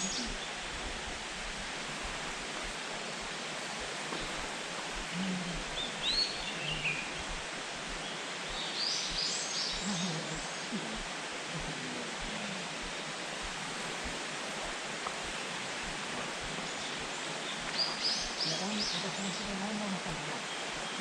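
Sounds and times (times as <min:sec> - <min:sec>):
rushing hiss of outdoor noise: 0:00.0 - 0:21.0.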